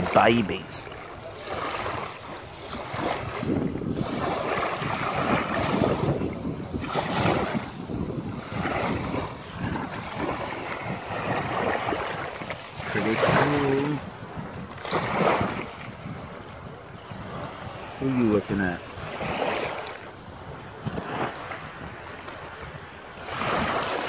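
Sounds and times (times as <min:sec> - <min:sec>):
small waves washing over sand: 0:00.0 - 0:24.0
wind buffeting microphone: 0:00.0 - 0:24.0.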